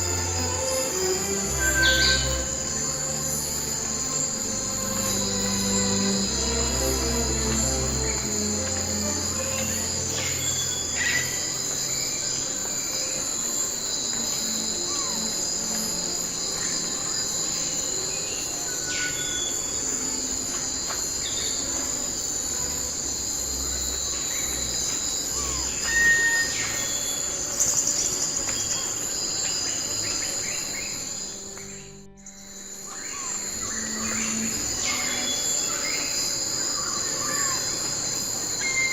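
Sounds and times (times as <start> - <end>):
insects droning: 0.0 - 38.9
short insect chirps: 0.0 - 38.9.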